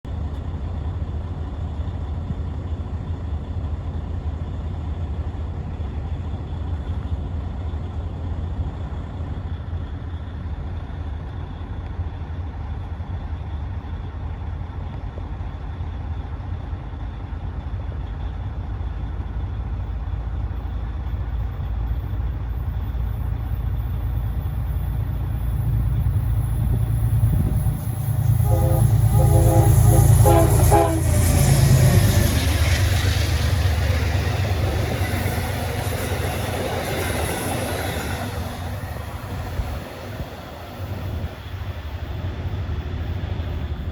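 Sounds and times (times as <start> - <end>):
low vehicle rumble: 0.1 - 43.9.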